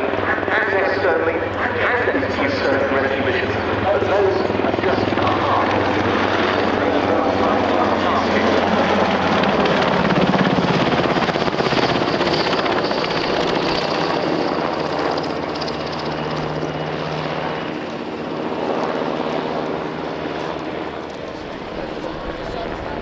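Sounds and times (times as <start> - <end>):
helicopter rotor and turbine: 0.0 - 23.0
high turbine whine: 0.0 - 23.0.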